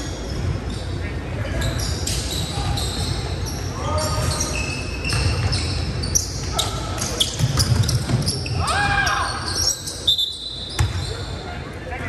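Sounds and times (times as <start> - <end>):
sneakers squeaking on court: 0.0 - 11.5.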